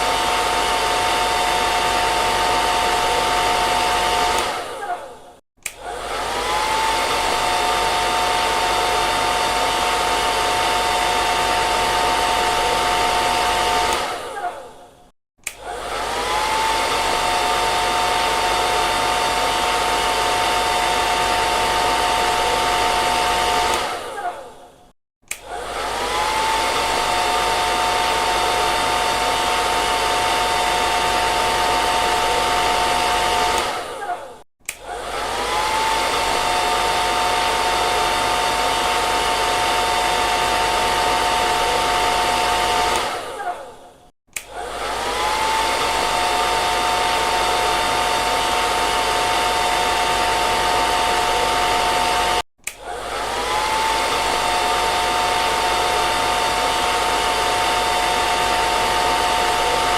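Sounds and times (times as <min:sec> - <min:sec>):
hair dryer motor whine: 0:00.0 - 0:59.9.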